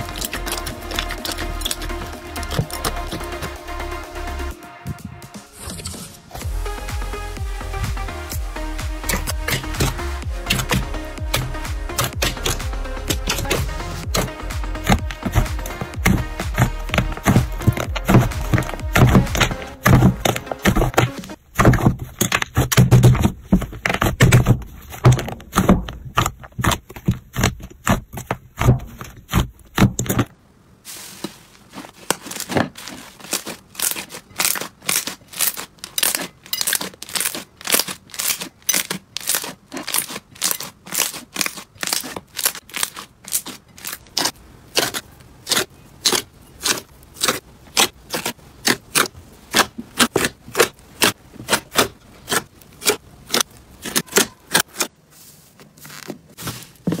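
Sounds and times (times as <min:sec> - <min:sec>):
slime crackling and squelching: 0:00.0 - 0:04.6, 0:07.7 - 0:57.0.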